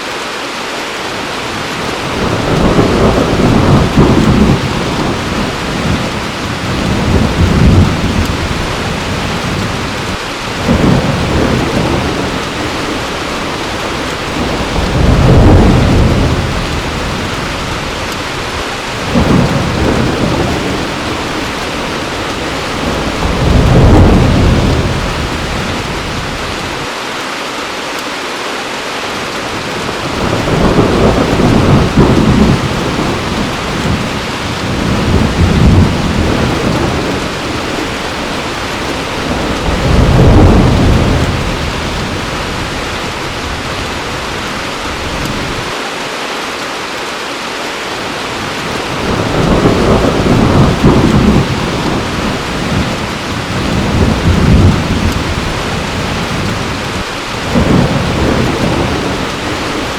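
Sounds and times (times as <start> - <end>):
heavy rain falling: 0.0 - 59.9
thunder rolling: 1.5 - 26.9, 29.6 - 45.8, 48.4 - 59.9.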